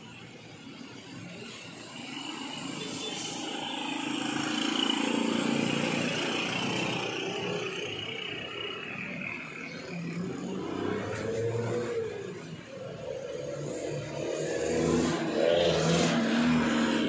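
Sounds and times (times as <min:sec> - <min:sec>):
vehicle passing: 0:02.1 - 0:17.0.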